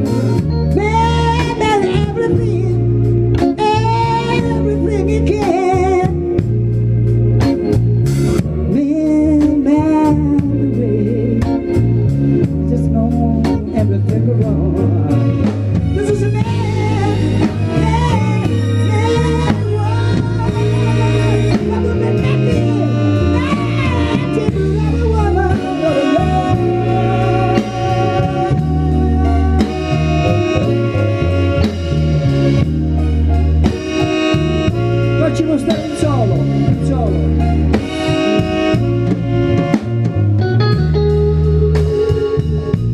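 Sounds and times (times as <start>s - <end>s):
band music with drums and bass: 0.0s - 42.9s.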